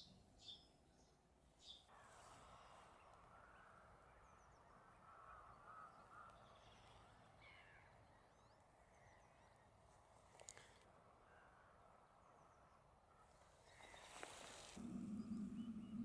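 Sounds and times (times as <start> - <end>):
distant bird calls: 0.0 - 16.0.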